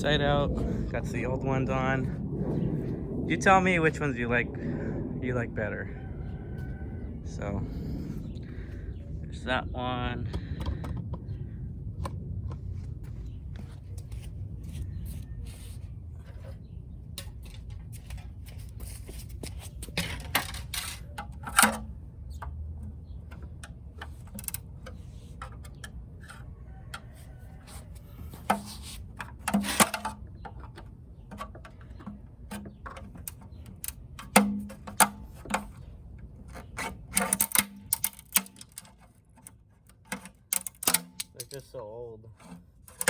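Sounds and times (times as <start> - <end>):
low steady rumble: 0.0 - 43.0.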